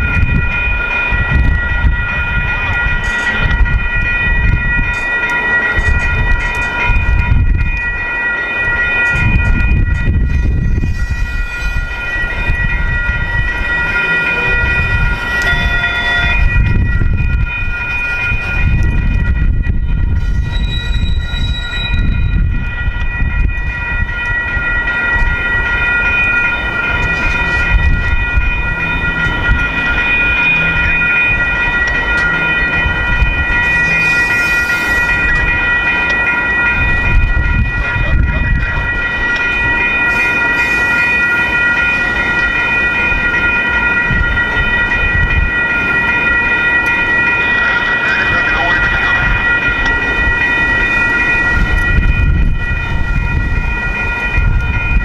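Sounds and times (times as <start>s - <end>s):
crossing warning bells ringing: 0.0s - 55.0s
train wheels rumbling on rails: 0.0s - 55.0s.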